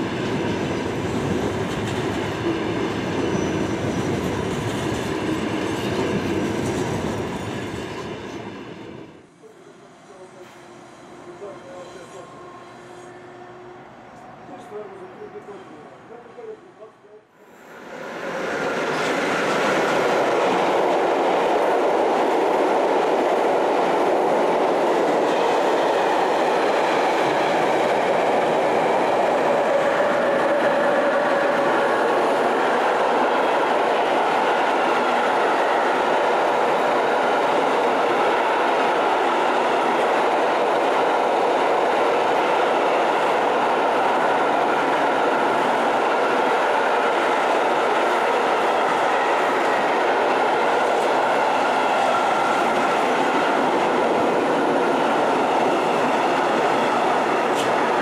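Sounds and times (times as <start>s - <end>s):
freight train wheels on rails: 0.0s - 15.7s, 17.4s - 58.0s.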